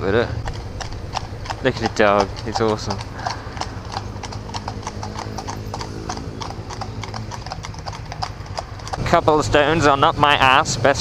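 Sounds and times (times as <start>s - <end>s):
horse hooves clip-clopping on road: 0.0s - 11.0s
motorcycle engine running low: 0.0s - 11.0s.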